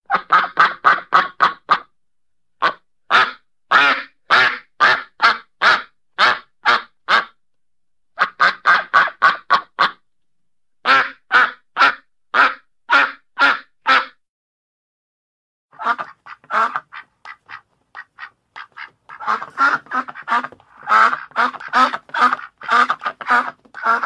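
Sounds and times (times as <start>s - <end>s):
duck quacking: 0.1s - 1.9s, 2.6s - 7.4s, 8.2s - 10.0s, 10.8s - 14.2s, 15.7s - 24.0s.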